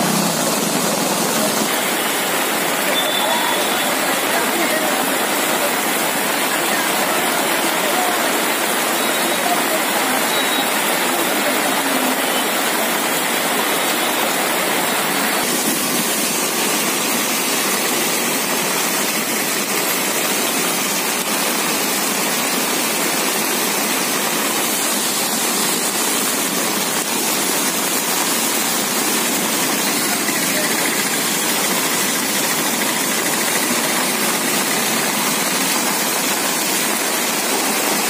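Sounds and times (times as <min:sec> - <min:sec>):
heavy rain on street: 0:00.0 - 0:38.0.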